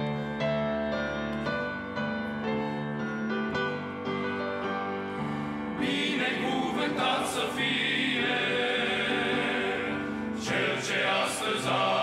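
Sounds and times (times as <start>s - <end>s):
grand piano slow chords: 0.0s - 12.0s.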